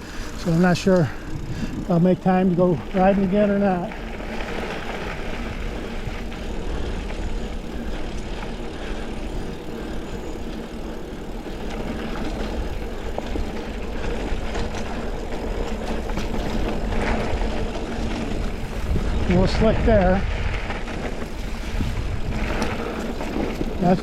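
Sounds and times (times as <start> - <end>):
bike clicks and rattles: 0.0 - 24.0
rolling tyre noise: 0.0 - 24.0
wind rumble on microphone: 0.0 - 24.0.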